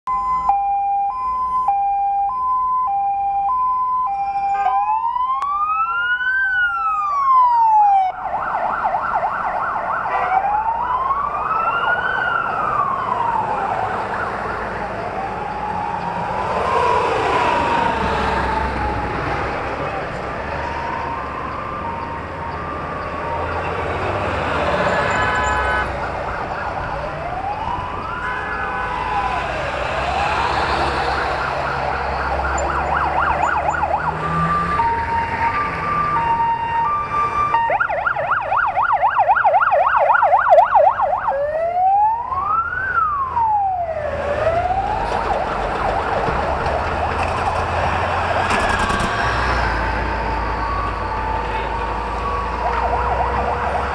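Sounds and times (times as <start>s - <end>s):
convoy vehicles rumbling past: 0.1s - 53.9s
sirens wailing and yelping: 0.1s - 53.9s.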